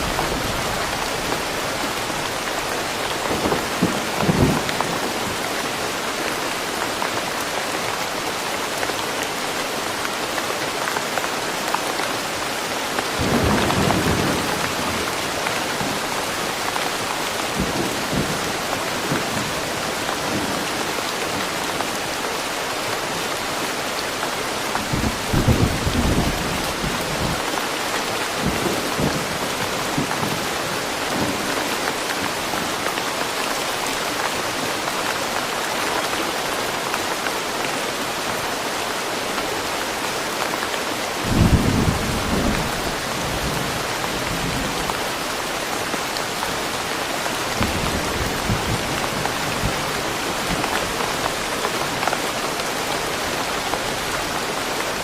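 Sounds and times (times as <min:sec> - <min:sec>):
rain falling on trees: 0:00.0 - 0:55.0.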